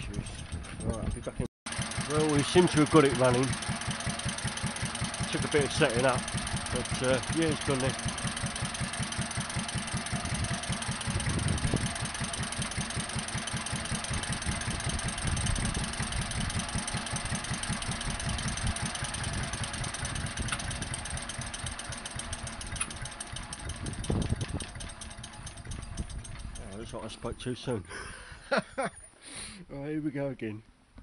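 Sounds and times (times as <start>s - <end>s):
stationary engine running: 0.1s - 27.7s.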